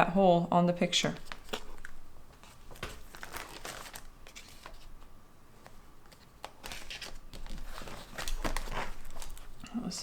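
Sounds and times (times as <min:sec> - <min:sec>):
paper and plastic rustling: 0:01.1 - 0:09.7.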